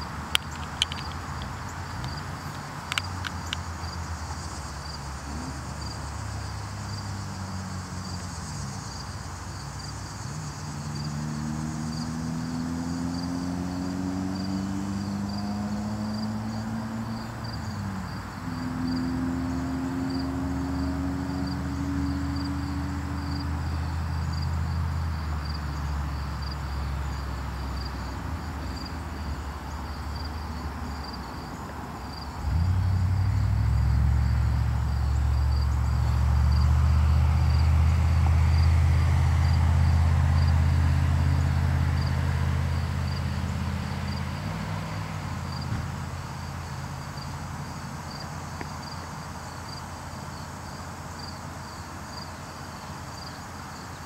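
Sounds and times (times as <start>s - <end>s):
crickets chirping: 0.0s - 54.0s
low engine hum: 0.0s - 54.0s.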